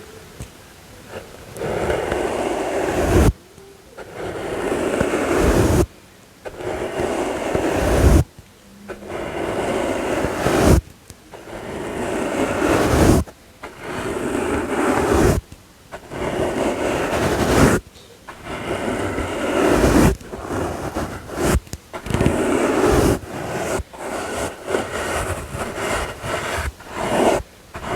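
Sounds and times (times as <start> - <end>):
brush swishing: 1.0 - 27.9.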